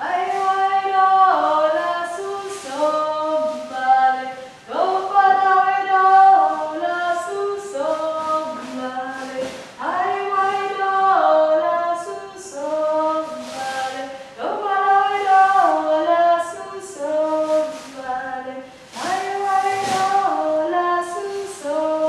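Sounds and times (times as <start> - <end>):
person singing unaccompanied: 0.0 - 22.0.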